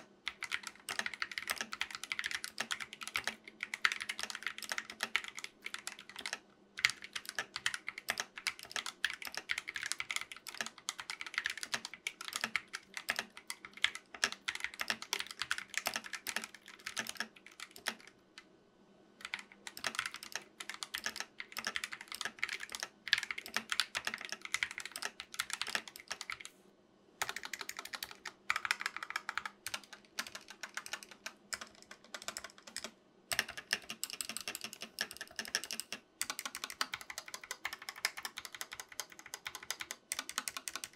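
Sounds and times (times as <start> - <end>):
mechanical keyboard typing: 0.0 - 18.2, 19.2 - 26.5, 27.2 - 40.9.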